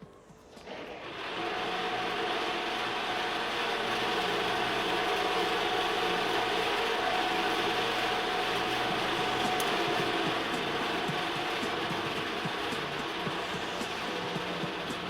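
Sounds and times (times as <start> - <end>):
vibrating sieve humming and rattling: 0.0 - 15.0.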